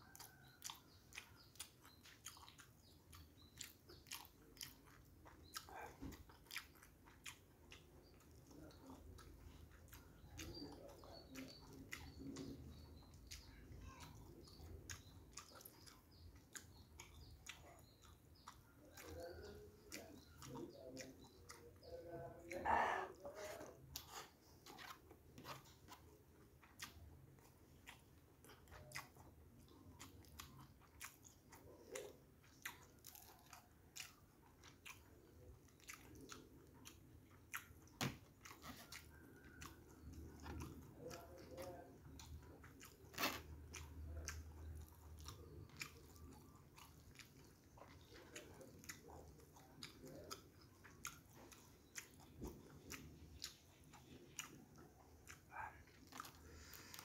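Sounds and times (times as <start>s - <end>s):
chewing with wet mouth clicks: 0.0s - 57.0s.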